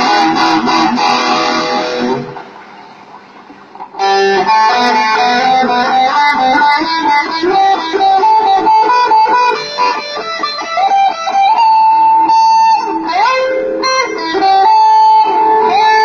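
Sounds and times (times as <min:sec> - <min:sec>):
guitar melodic run: 0:00.0 - 0:16.0.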